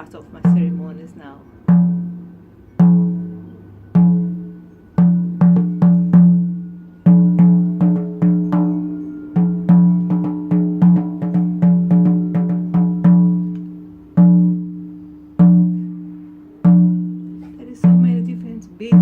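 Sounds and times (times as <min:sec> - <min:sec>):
frame drum beat: 0:00.0 - 0:19.0.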